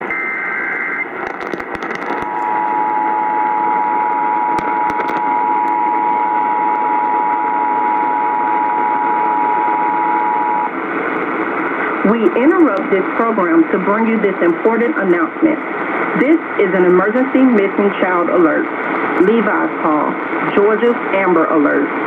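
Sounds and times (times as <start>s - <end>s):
radio static hiss and crackles: 0.0s - 22.0s.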